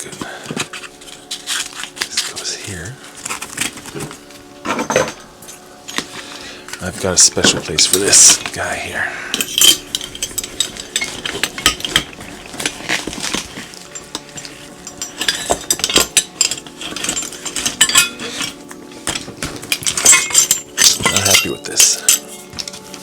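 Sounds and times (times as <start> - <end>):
metal tools clinking: 0.0 - 23.0.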